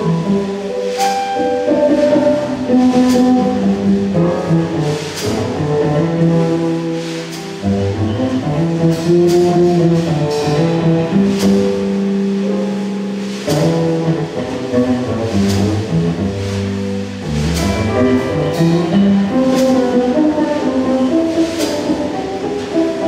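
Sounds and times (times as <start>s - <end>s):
live band with piano and bass: 0.0s - 23.0s.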